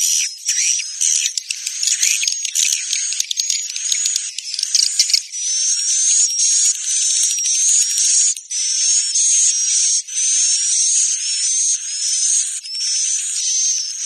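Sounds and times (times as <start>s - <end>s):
high-pitched buzzy bird twittering: 0.0s - 14.0s.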